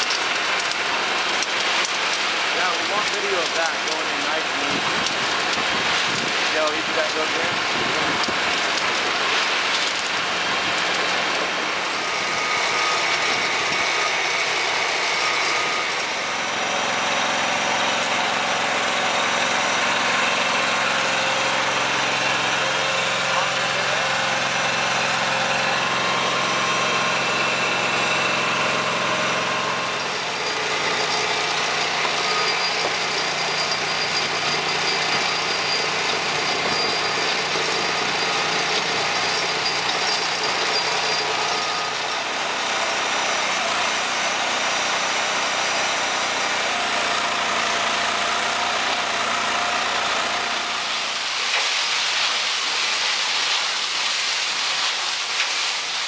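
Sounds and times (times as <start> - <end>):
concrete mixer drone: 0.0 - 56.0.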